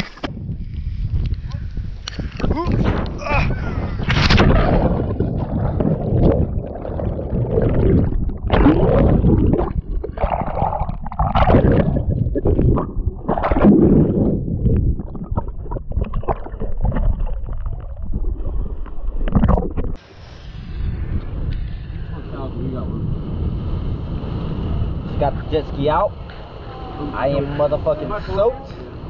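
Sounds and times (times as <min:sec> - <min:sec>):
deep rumble: 0:00.3 - 0:27.9
muffled water churning underwater: 0:01.6 - 0:25.1.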